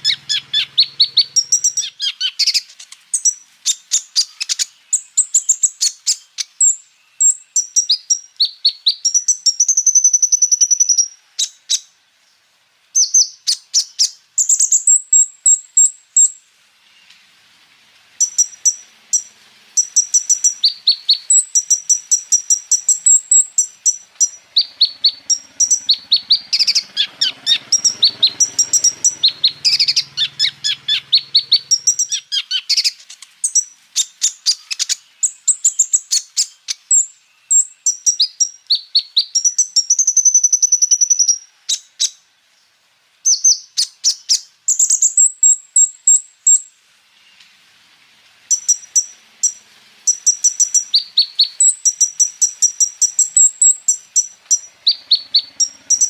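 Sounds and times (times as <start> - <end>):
bird singing chirps and trills: 0.0 - 12.4, 13.0 - 17.2, 18.2 - 42.2, 43.2 - 47.4, 48.5 - 56.0.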